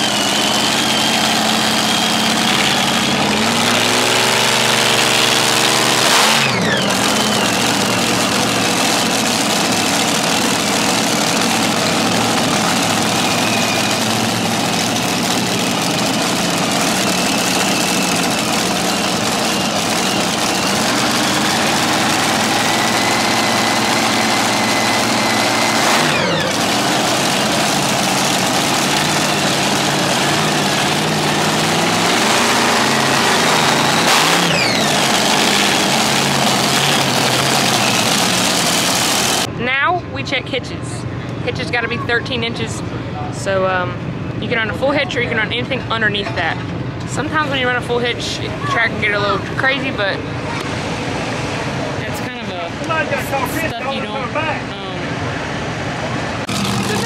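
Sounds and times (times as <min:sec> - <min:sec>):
tractor engines idling loudly: 0:00.0 - 0:57.0.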